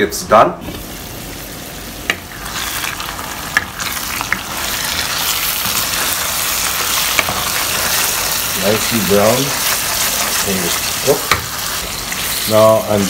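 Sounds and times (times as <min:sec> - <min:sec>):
meat sizzling in a pan: 0:00.7 - 0:13.0
spatula stirring: 0:02.1 - 0:13.0.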